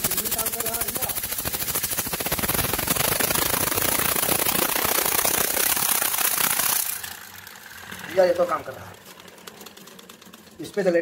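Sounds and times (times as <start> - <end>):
air engine chuffing clatter: 0.0 - 11.0.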